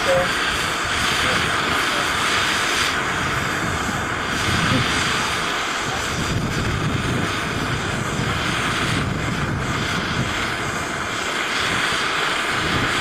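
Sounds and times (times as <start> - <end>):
gas torch flame hissing: 0.0 - 13.0.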